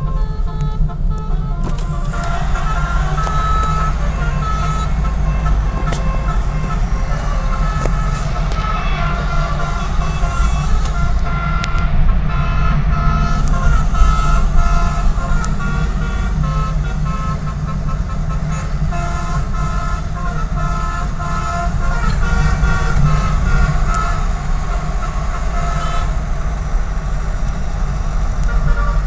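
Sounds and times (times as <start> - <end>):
bus engine running: 0.0 - 29.0
bus horn playing notes: 0.0 - 29.0.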